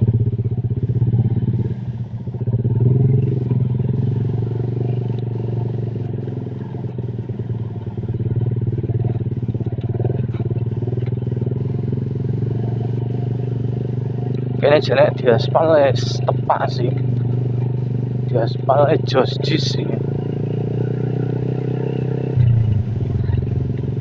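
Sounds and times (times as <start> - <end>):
scooter engine running: 0.0 - 24.0.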